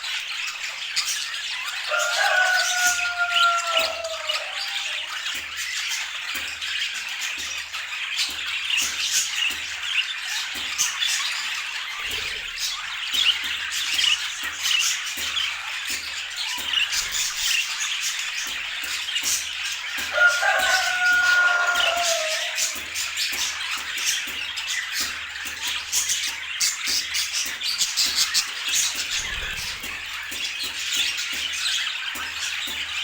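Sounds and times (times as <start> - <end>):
budgerigars chattering and squawking: 0.0 - 33.0.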